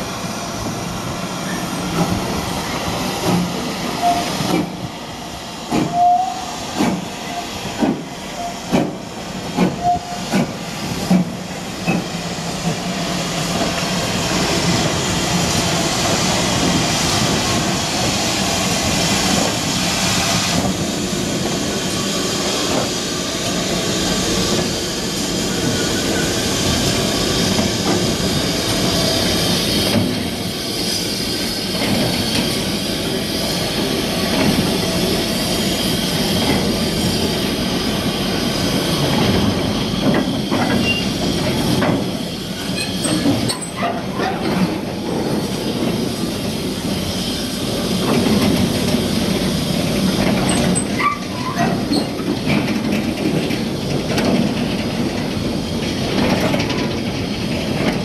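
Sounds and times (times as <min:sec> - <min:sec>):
steam hissing: 0:00.0 - 0:56.1.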